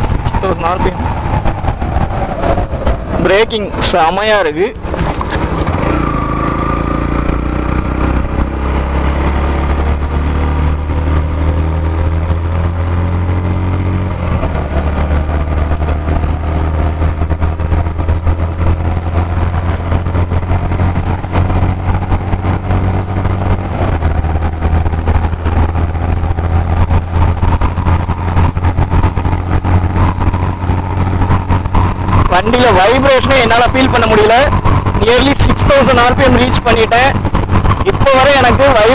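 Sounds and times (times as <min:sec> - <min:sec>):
motorcycle engine accelerating: 0:00.0 - 0:38.9
road and wind noise: 0:00.0 - 0:38.9.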